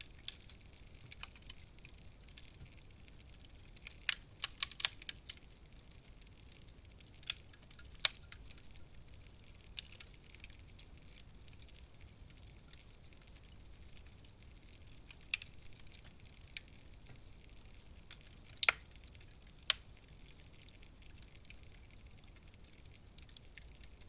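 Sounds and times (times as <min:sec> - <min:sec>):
faint low hiss: 0:00.0 - 0:24.0
wood fire crackling and popping: 0:00.0 - 0:24.0.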